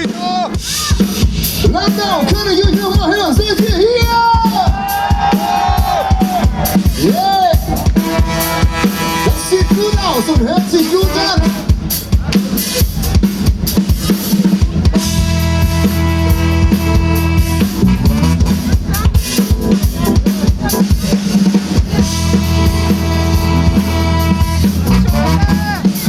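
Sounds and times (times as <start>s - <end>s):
brass band horn and bass chords: 0.0s - 26.0s
drum kit playing: 0.0s - 26.0s.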